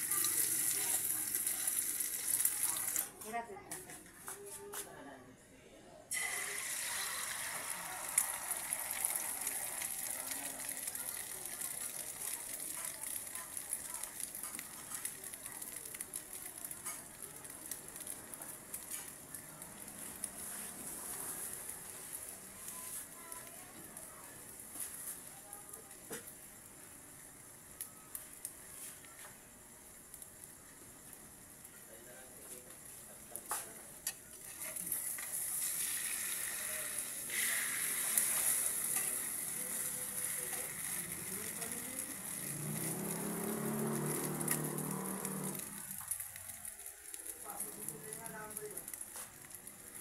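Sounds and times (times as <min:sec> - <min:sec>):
eggs sizzling in hot oil: 0:00.0 - 0:03.2, 0:06.1 - 0:50.0.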